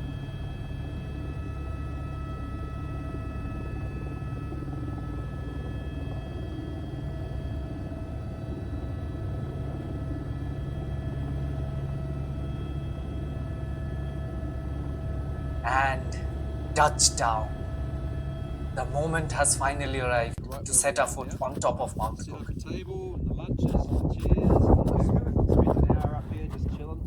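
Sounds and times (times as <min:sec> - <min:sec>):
helicopter rotor rumble: 0:00.0 - 0:27.0
high turbine whine: 0:00.0 - 0:27.0.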